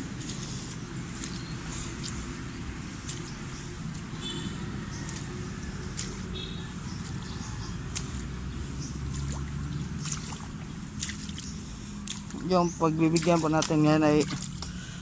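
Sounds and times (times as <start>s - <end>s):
rustling undergrowth: 0.0s - 15.0s
squelching footsteps in mud: 0.0s - 15.0s.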